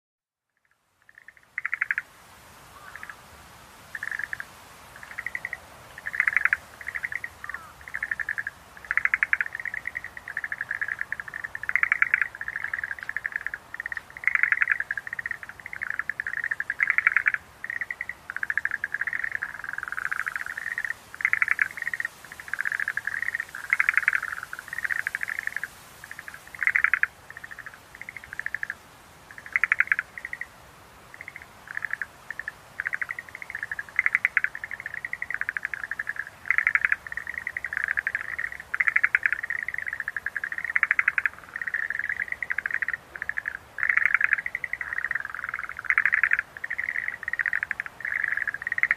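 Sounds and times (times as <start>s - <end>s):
tree frogs trilling: 0.4s - 3.3s, 3.9s - 48.9s.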